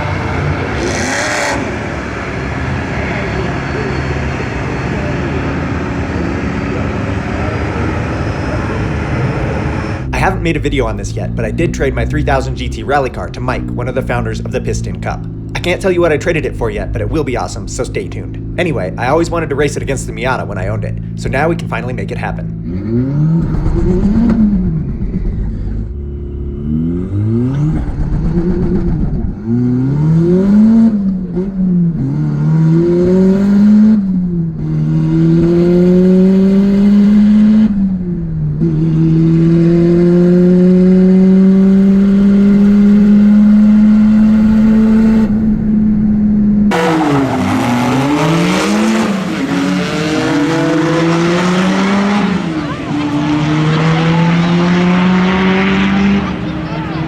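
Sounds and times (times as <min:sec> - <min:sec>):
another engine revving: 0:00.0 - 0:46.0, 0:46.6 - 0:57.0
car engine revving and accelerating: 0:00.0 - 0:57.0.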